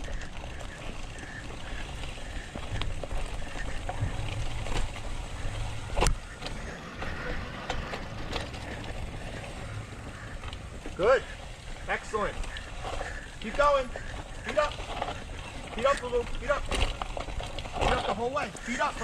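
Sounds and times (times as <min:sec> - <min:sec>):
bike rattles and clicks: 0:00.0 - 0:19.0
bike rolling on dirt trail: 0:00.0 - 0:19.0.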